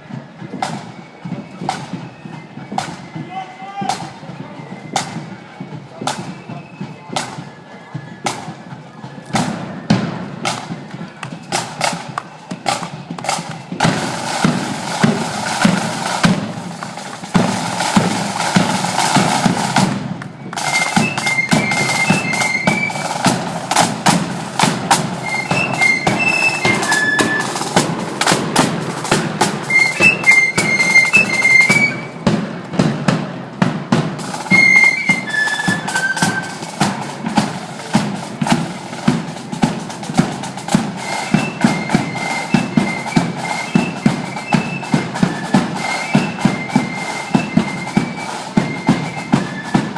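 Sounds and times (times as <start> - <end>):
flutes playing melody: 0.0 - 49.9
marching drums: 0.0 - 49.9.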